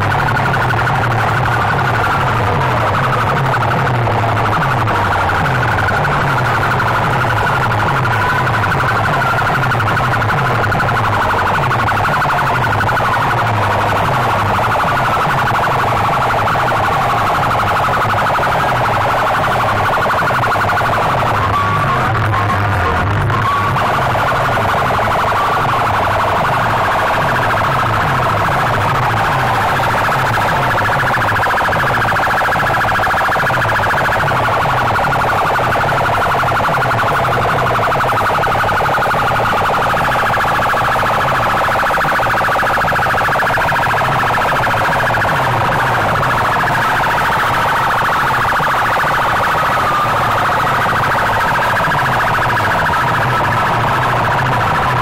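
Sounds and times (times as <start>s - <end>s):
fast pulsing bass: 0.0s - 55.0s
siren-like wailing tone: 0.0s - 55.0s.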